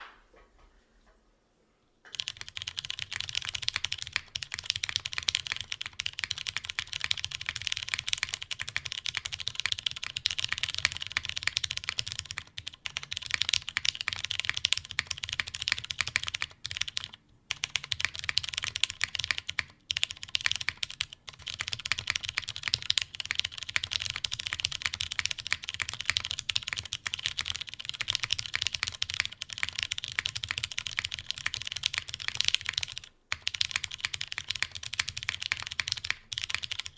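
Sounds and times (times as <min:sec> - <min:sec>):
fast typing on mechanical keyboard: 0:02.1 - 0:36.9.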